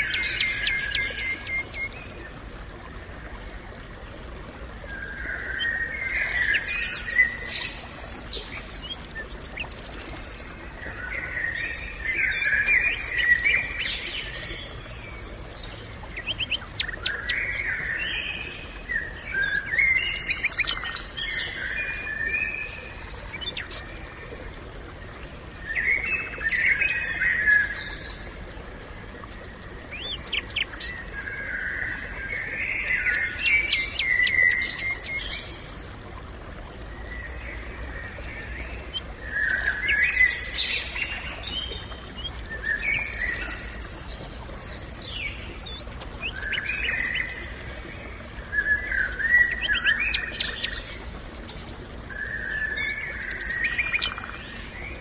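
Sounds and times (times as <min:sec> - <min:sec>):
birds singing and chirping: 0:00.0 - 0:02.2, 0:04.9 - 0:28.4, 0:29.3 - 0:35.9, 0:37.0 - 0:55.0.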